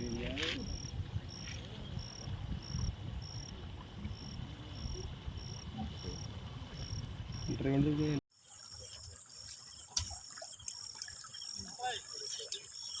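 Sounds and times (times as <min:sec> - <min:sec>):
cricket chirping: 0:00.0 - 0:07.7, 0:08.3 - 0:13.0.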